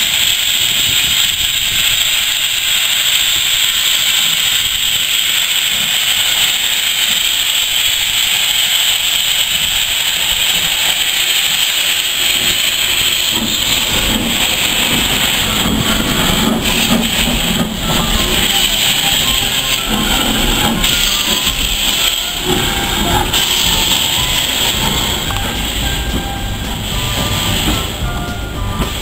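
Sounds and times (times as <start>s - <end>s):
low rumble of moving locomotive: 0.0s - 29.0s
steam locomotive hissing steam: 0.0s - 29.0s.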